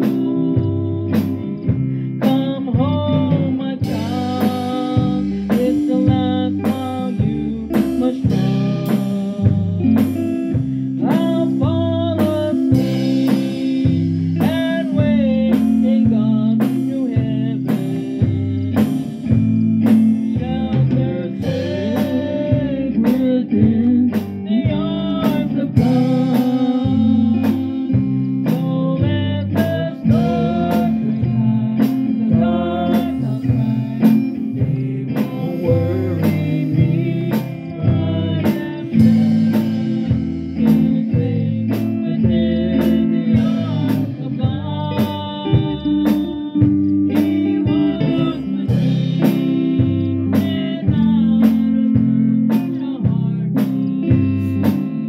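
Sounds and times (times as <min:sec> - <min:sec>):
drum kit beat: 0:00.0 - 0:55.0
electric guitar: 0:00.0 - 0:55.0
voices singing: 0:00.0 - 0:55.0.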